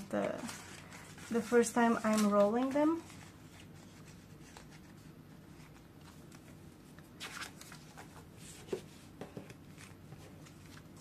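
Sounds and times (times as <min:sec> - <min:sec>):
paper and banknotes rustling: 0:00.0 - 0:11.0.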